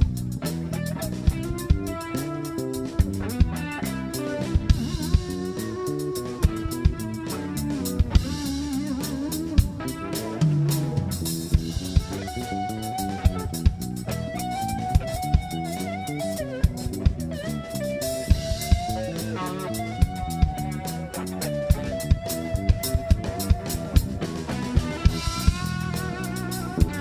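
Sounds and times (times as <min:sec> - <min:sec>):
drum kit beat: 0:00.0 - 0:27.0
electric guitar melody: 0:00.0 - 0:27.0.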